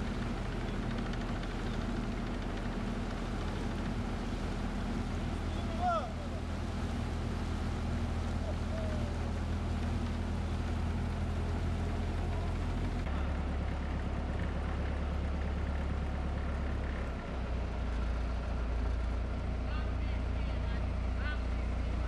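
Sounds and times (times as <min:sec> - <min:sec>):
motor engine running: 0:00.0 - 0:22.0.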